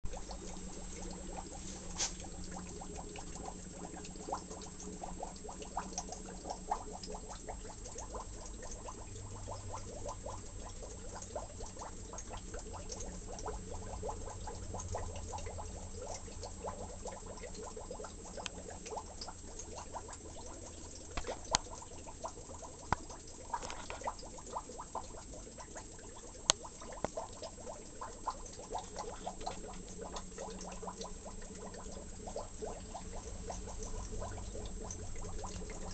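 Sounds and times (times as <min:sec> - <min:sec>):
low filter pump hum: 0:00.0 - 0:35.9
water trickling and bubbling: 0:00.0 - 0:35.9.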